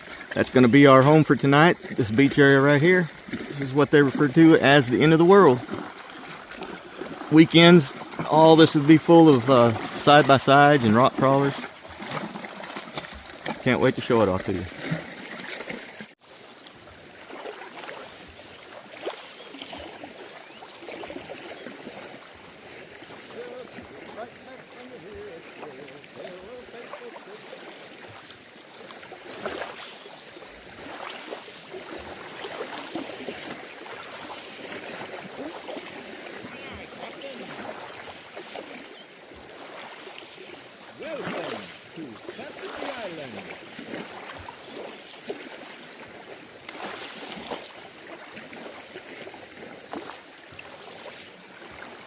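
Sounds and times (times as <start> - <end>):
paddle splashes and drips: 0.0 - 52.0
water splashing around kayak: 0.0 - 52.0.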